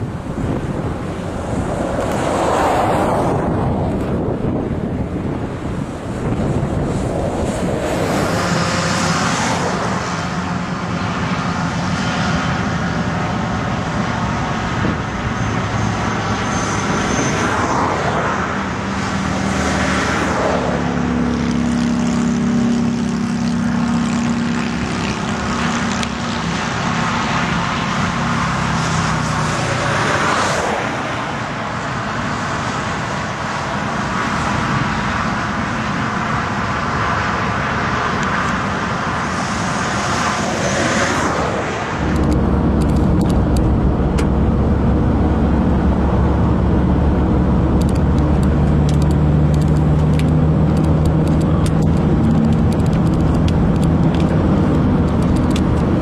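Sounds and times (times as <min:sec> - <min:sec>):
low engine hum: 0:00.0 - 0:56.0
steady road roar: 0:00.0 - 0:56.0
vehicles passing: 0:00.0 - 0:56.0.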